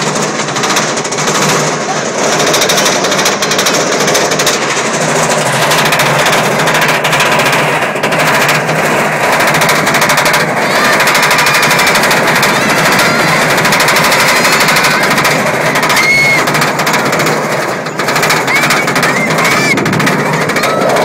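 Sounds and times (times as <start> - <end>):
roller coaster rattling on track: 0.0 - 21.0.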